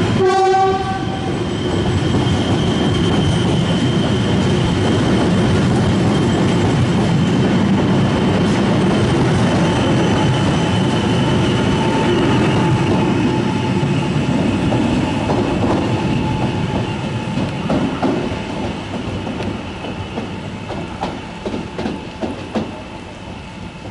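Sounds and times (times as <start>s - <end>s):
electric train rumbling past: 0.0s - 23.9s
train whine: 0.0s - 23.9s.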